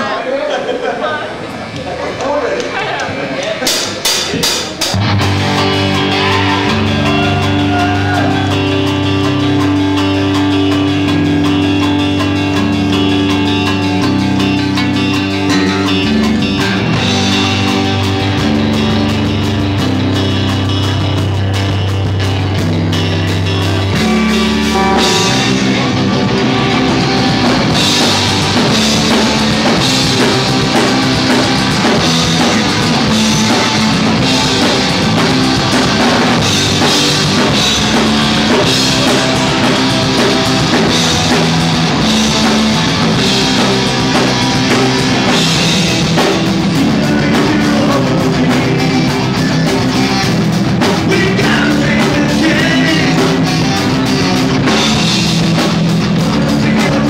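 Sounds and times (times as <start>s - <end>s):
electric guitar: 1.4s - 57.0s
drum kit: 3.5s - 57.0s.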